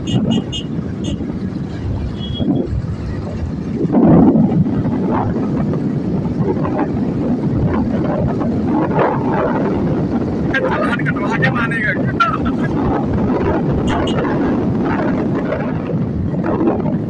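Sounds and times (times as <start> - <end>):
road and traffic rumble: 0.0 - 17.0
wind buffeting microphone: 0.0 - 17.0.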